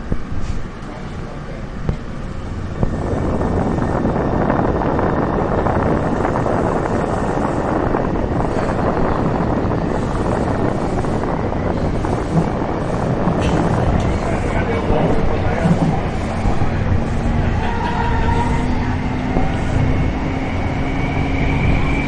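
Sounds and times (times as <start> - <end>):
metro train rumbling: 0.0 - 22.0.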